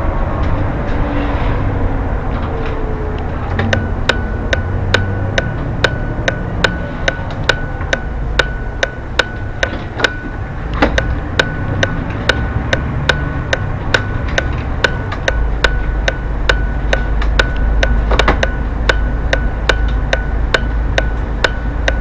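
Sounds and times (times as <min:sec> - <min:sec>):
bus engine and tyres rumbling: 0:00.0 - 0:22.0
turn-indicator relay ticking: 0:03.6 - 0:22.0.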